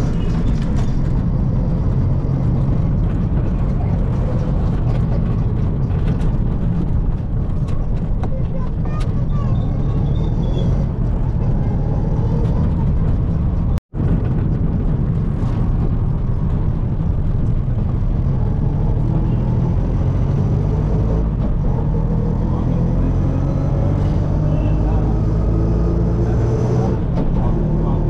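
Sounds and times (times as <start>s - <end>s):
auto-rickshaw engine running: 0.0s - 28.0s.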